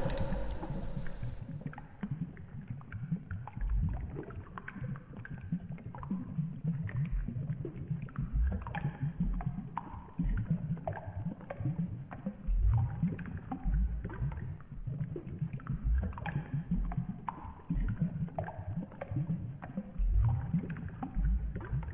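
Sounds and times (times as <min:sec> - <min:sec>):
water rumbling and gurgling: 0:00.0 - 0:21.9.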